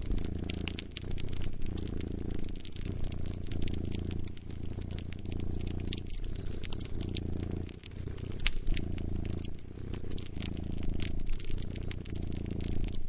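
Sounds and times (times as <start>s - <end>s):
cat purring: 0.0s - 13.0s
wood fire crackling and popping: 0.0s - 13.0s.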